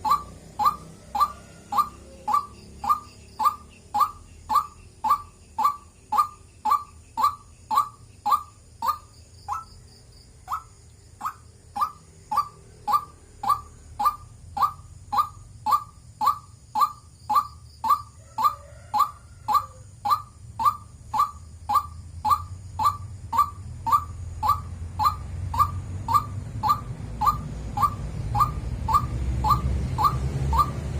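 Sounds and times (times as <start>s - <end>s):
bird repeating wak call: 0.0s - 9.8s, 10.5s - 30.9s.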